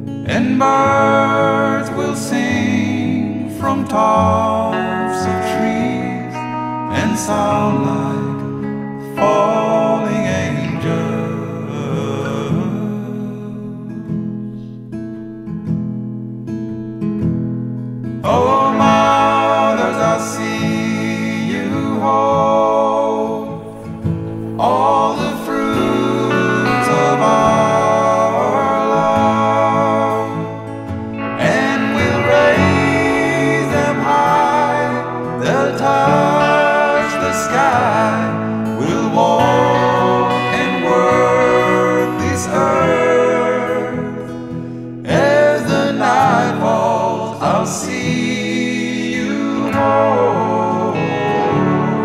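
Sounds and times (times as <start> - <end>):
person singing long notes: 0.0 - 14.7, 18.2 - 52.0
acoustic guitar: 0.0 - 52.0.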